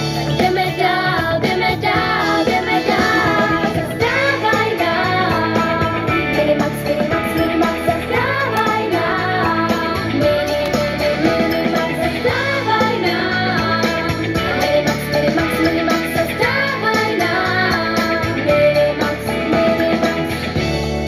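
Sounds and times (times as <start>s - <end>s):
upbeat pop song played live: 0.0s - 21.0s
girls singing: 0.3s - 20.3s.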